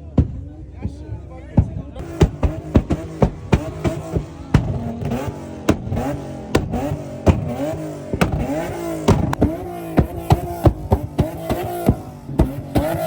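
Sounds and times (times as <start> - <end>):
car engine revving: 0.0 - 13.0
sharp exhaust pops: 0.0 - 13.0.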